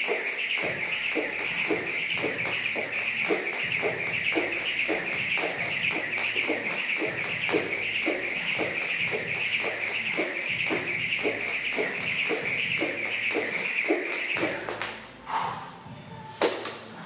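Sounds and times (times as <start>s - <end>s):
jump rope whirring and slapping: 0.0s - 15.0s.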